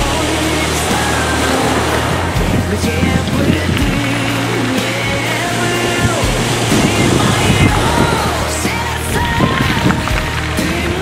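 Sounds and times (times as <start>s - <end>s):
background music gliding melody: 0.0s - 11.0s
surf on a pebble beach: 0.0s - 11.0s.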